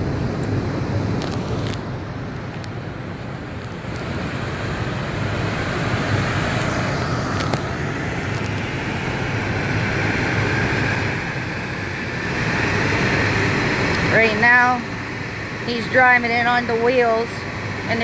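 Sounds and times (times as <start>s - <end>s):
car accelerating with rising whine: 0.0s - 18.0s.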